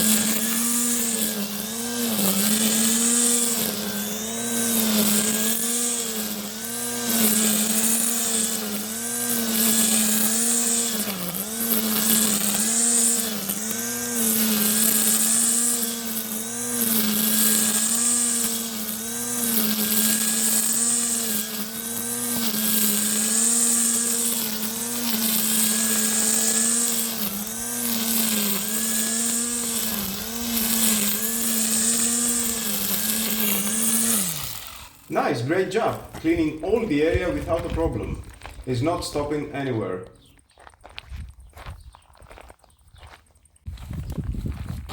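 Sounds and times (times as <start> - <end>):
trimmer swishing through grass: 0.0 - 40.3
trimmer motor whine: 0.0 - 40.4.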